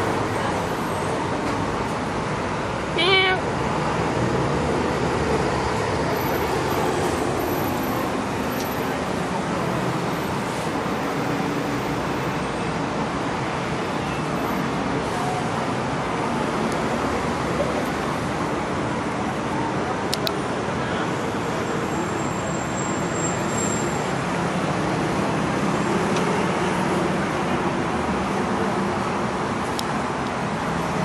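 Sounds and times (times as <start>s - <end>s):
road traffic hum: 0.0s - 31.0s.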